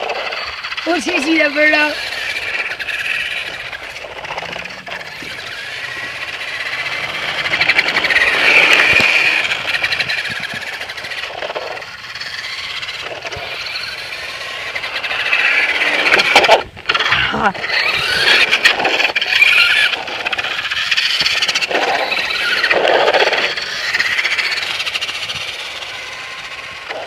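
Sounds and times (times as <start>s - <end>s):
toy truck electric motor whining: 0.0s - 27.0s.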